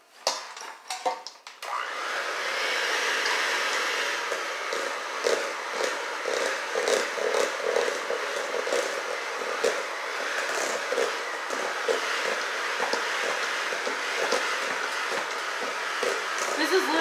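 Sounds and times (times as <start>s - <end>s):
electric hand mixer running: 1.6s - 17.0s.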